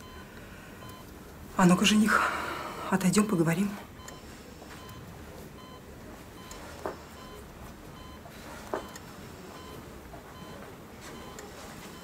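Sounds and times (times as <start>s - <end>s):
patient monitor beeping: 0.0s - 12.0s.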